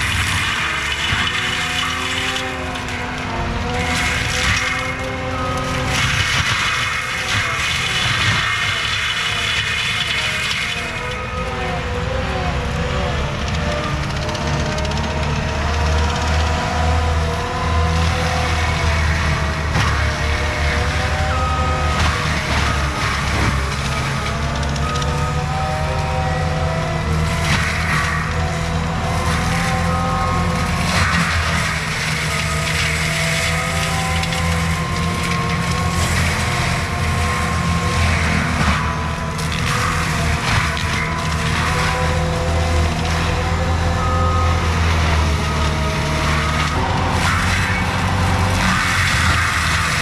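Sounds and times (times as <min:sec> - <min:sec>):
deep engine drone: 0:00.0 - 0:50.0
mulcher whine: 0:00.0 - 0:50.0.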